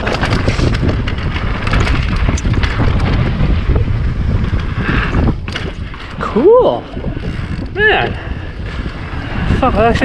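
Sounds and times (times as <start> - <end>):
bike knocking and clattering: 0.0 - 10.0
bike tyres rumbling on dirt: 0.0 - 10.0
wind buffeting microphone: 0.0 - 10.0.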